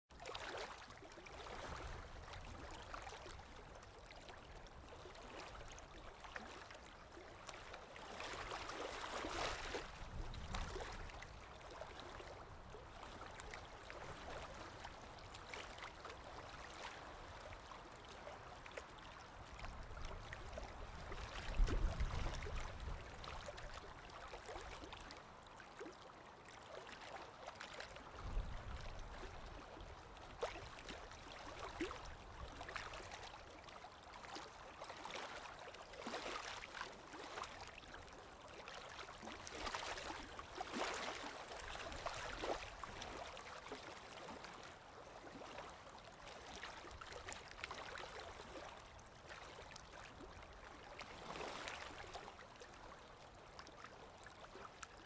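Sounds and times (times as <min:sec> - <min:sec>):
stream water rushing and gurgling: 0:04.7 - 0:54.9.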